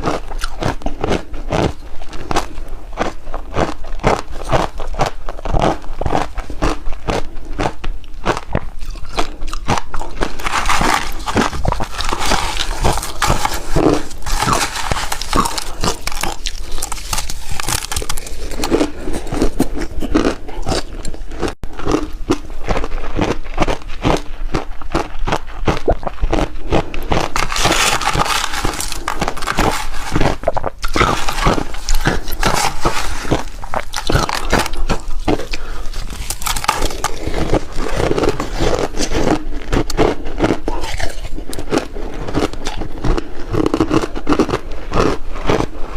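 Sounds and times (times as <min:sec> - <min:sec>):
ice being chewed with crunches: 0:00.0 - 0:45.9.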